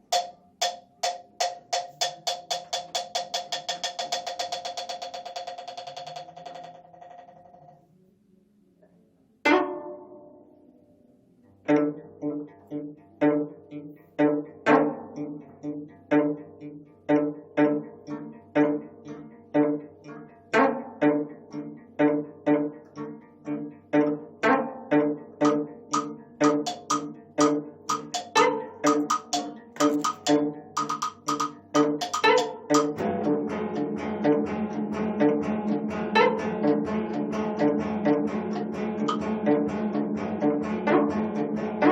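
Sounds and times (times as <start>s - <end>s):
plucked zither notes: 0.0s - 6.8s, 9.5s - 10.5s, 11.7s - 41.9s.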